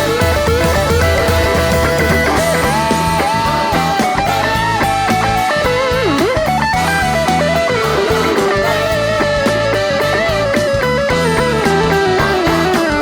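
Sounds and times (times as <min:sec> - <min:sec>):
electric guitar bending notes: 0:00.0 - 0:13.0
live pop-rock band playing: 0:00.0 - 0:13.0.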